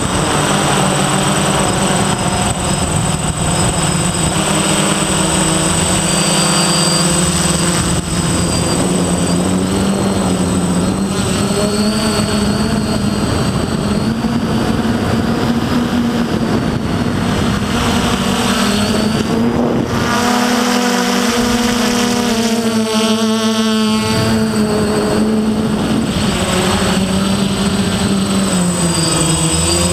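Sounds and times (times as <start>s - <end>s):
quadcopter propellers whirring: 0.0s - 29.9s
steady high whine: 0.0s - 29.9s.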